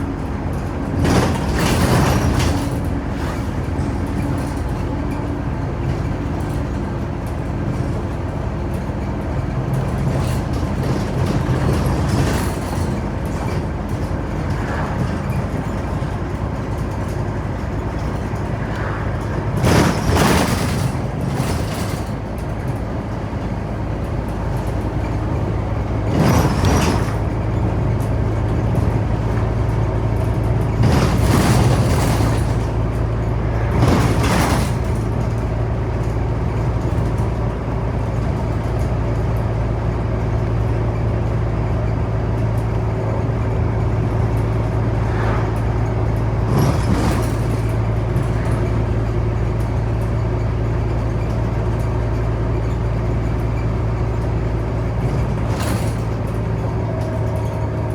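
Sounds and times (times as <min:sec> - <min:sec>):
bus engine drone: 0:00.0 - 0:57.9.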